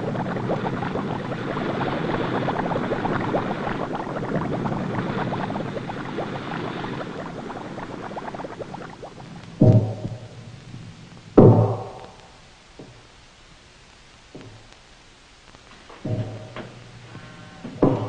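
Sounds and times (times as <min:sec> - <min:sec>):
underwater bubbling and crackling: 0:00.0 - 0:13.1, 0:15.5 - 0:18.0.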